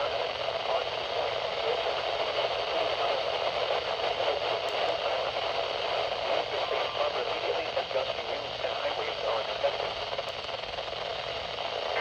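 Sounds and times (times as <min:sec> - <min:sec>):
radio static and hiss: 0:00.0 - 0:12.0.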